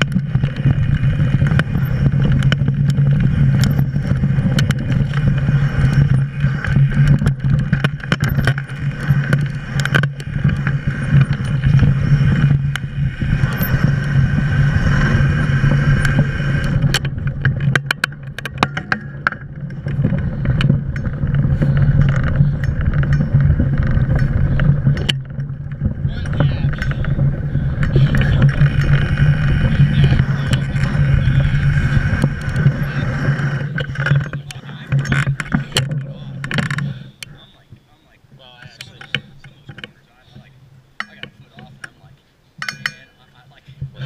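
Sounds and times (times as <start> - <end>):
bike and stones clicking and rattling: 0.0 - 44.0
wind and tyres rumbling: 0.0 - 44.0.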